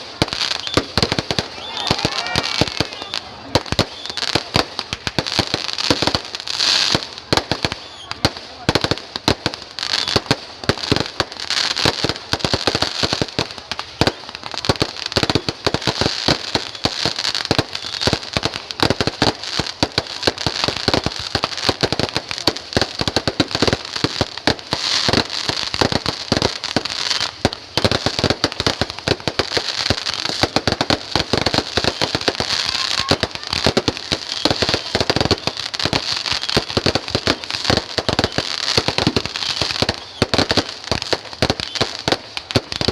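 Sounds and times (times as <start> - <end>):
crackling hiss: 0.0 - 42.9
fireworks bangs and cracks: 0.0 - 42.9.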